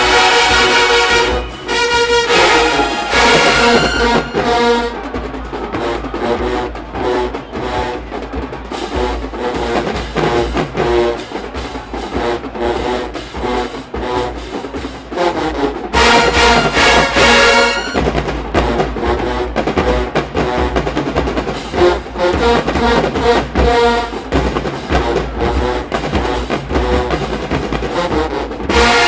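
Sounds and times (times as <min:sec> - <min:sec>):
marching band playing: 0:00.0 - 0:29.0
rapid drum hits: 0:00.0 - 0:29.0.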